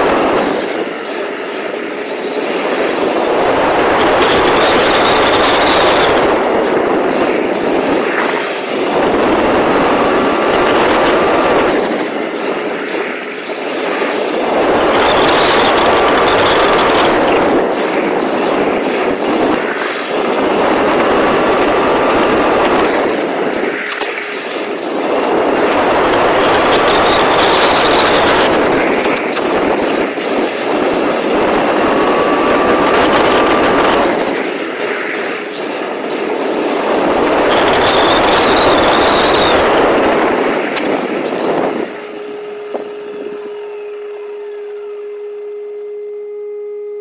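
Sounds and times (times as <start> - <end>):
tyre and drivetrain noise: 0.0 - 46.2
electric motor whining: 0.0 - 47.0.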